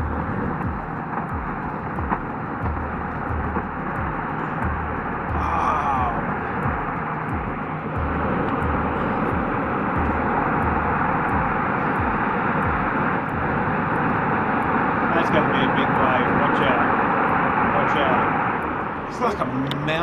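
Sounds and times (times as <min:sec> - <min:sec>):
faint steady hum: 0:00.0 - 0:20.0
low rumbles: 0:00.0 - 0:20.0.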